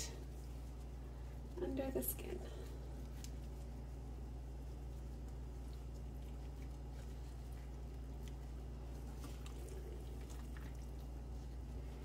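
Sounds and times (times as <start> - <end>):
hands squishing raw chicken skin: 0.0 - 12.0
steady low hum: 0.0 - 12.0.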